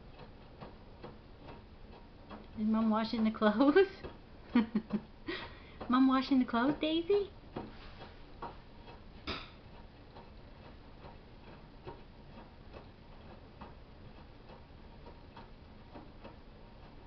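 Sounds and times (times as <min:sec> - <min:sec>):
washing machine hum: 0:00.0 - 0:17.0.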